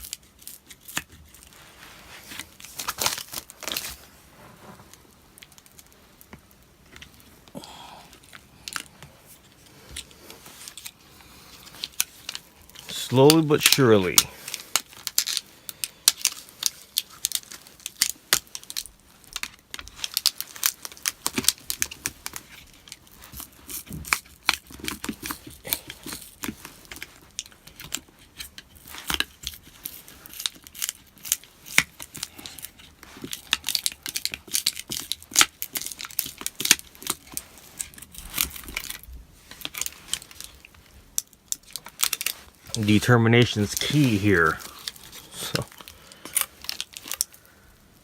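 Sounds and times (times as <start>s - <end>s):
glue crackling and tearing: 0.0s - 47.5s.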